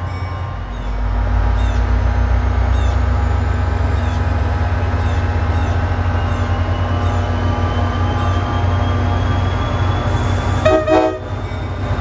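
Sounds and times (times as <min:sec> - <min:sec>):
diesel locomotive engine rumbling: 0:00.0 - 0:12.0.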